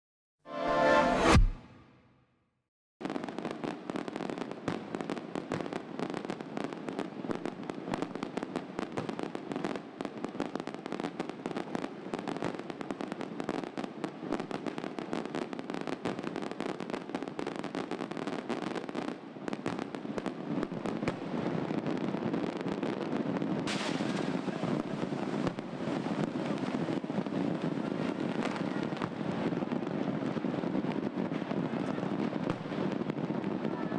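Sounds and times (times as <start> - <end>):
fireworks crackling bangs: 3.0 - 33.9.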